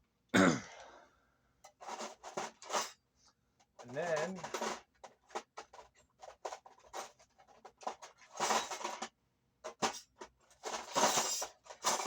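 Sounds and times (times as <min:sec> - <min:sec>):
guitar handling rustles and clicks: 0:01.6 - 0:03.0, 0:03.6 - 0:12.0.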